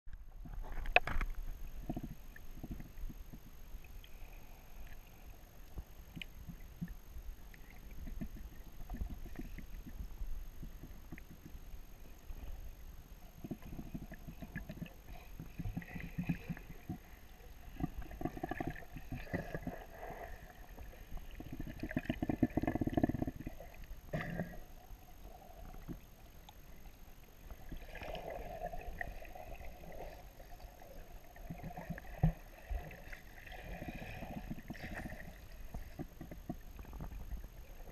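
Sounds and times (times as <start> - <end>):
underwater rumble and crackle: 0.1 - 37.9.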